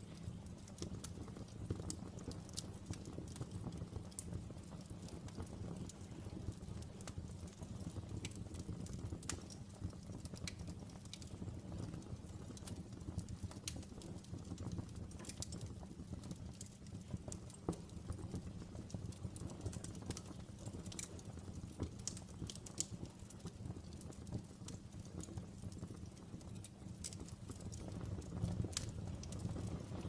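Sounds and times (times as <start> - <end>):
open fire crackling and rumbling: 0.0 - 30.0.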